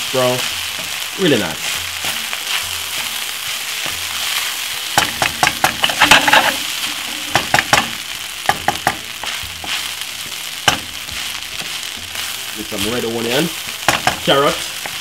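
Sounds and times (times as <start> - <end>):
fried rice sizzling in a wok: 0.0 - 15.0
wooden spoon scraping a pan: 0.1 - 8.0, 8.7 - 15.0.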